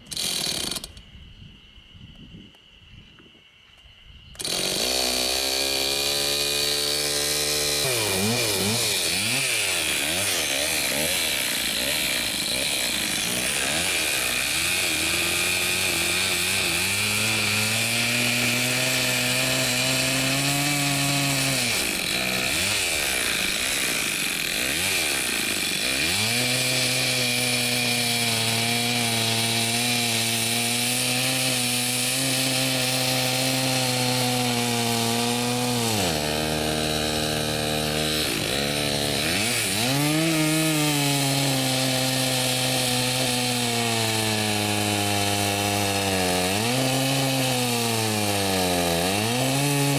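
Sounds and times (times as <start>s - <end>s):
chainsaw cutting through log: 0.0s - 1.0s, 4.4s - 49.9s.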